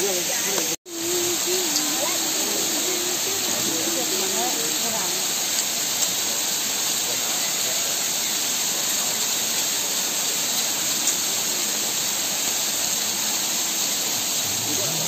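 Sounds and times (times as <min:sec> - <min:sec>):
waterfall rushing onto rocks: 0:00.0 - 0:15.0.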